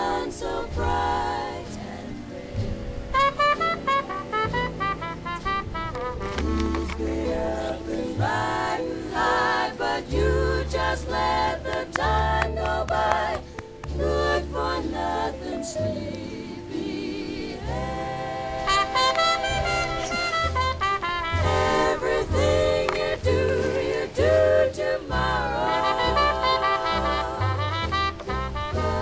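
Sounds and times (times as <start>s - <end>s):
music with singing voices: 0.0s - 29.0s.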